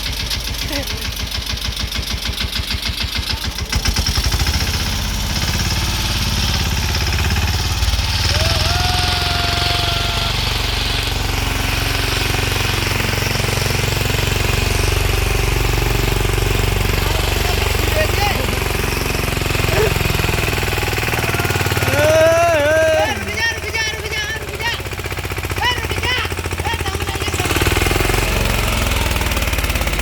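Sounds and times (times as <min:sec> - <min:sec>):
tractor diesel engine chugging: 0:00.0 - 0:30.0.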